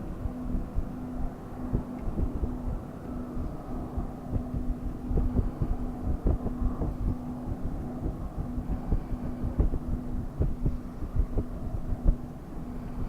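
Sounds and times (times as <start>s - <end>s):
jet engines rumbling: 0.0s - 13.0s
wind buffeting microphone: 0.0s - 13.0s.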